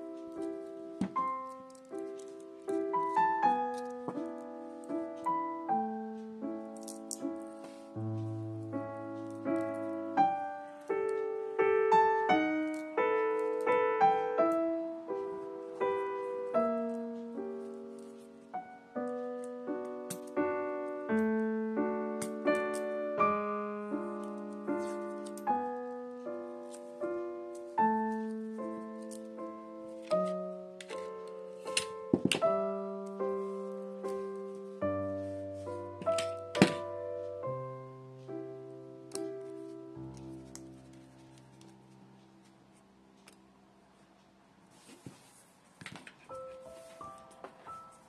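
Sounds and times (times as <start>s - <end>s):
slow piano music: 0.0s - 45.4s, 46.2s - 48.0s.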